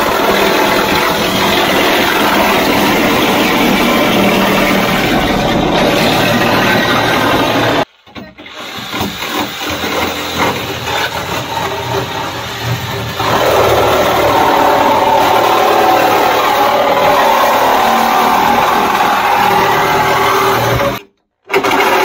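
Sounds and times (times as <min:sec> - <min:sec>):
reciprocating saw cutting metal: 0:00.0 - 0:07.9, 0:08.6 - 0:21.0.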